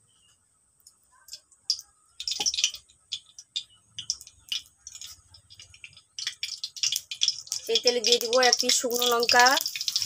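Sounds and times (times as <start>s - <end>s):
hot oil crackling and popping: 0.8s - 10.0s.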